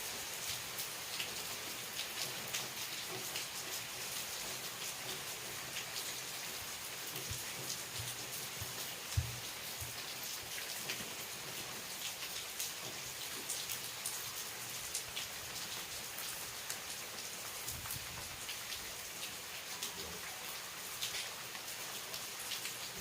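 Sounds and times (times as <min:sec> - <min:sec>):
raindrops ticking on surfaces: 0:00.0 - 0:23.0
steady rain falling: 0:00.0 - 0:23.0.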